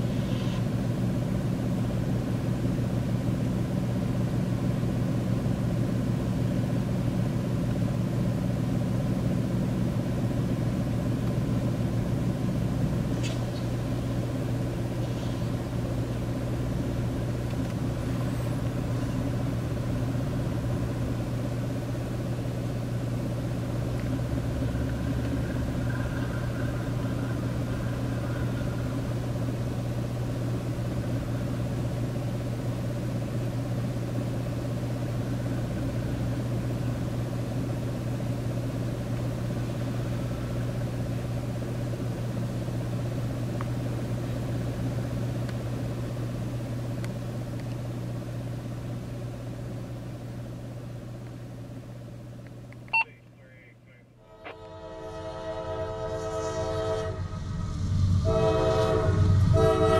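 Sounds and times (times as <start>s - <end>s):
locomotive engine droning: 0.0s - 59.9s.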